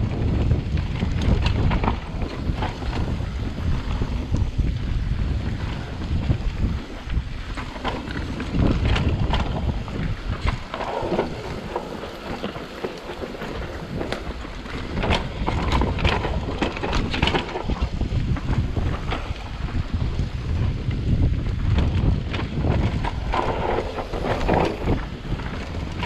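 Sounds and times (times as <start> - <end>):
bike rattling over bumps: 0.0 - 26.0
wind rumbling on microphone: 0.0 - 26.0
tyres rolling over dirt and leaves: 0.2 - 26.0.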